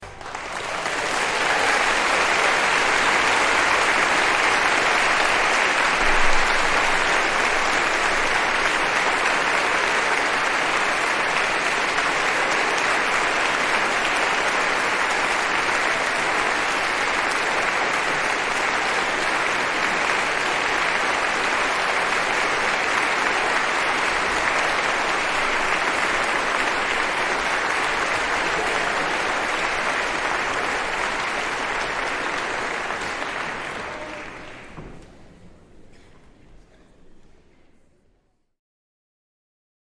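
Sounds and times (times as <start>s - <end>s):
crowd applause: 0.0s - 35.2s.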